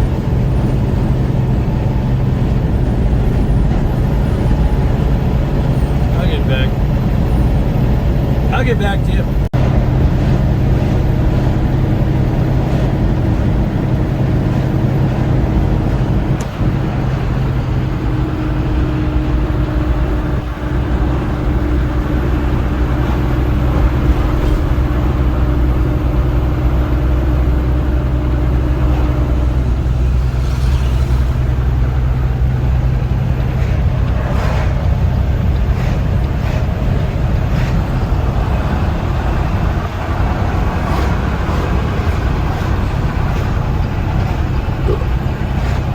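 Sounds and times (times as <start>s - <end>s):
road noise: 0.0s - 45.9s
vehicle engine running: 0.0s - 45.9s.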